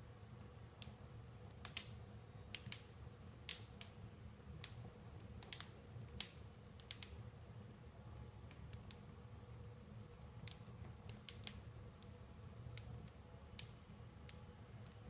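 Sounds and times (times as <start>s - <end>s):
fire crackling and popping: 0.2s - 15.0s.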